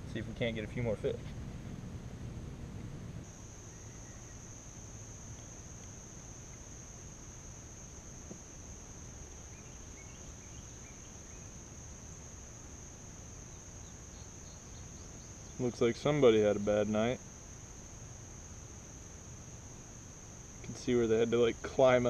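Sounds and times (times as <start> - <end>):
faint low rumble: 0.0 - 22.0
insects trilling: 3.2 - 22.0.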